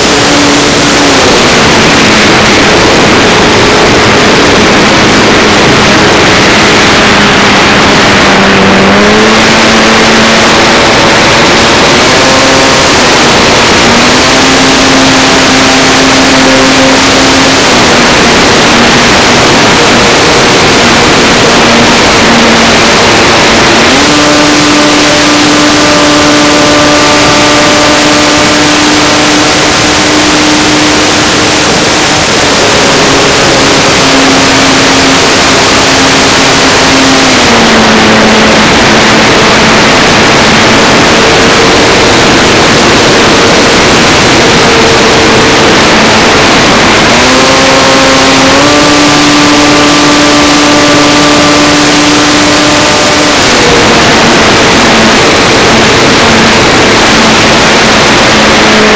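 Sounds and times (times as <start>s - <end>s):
propeller hum: 0.0s - 58.9s
wind rush: 0.0s - 58.9s.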